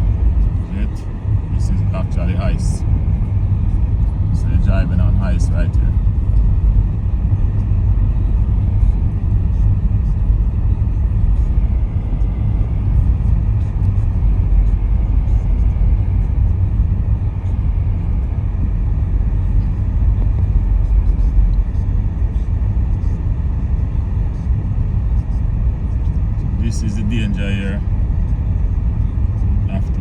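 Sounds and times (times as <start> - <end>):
car driving on icy road: 0.0 - 30.0.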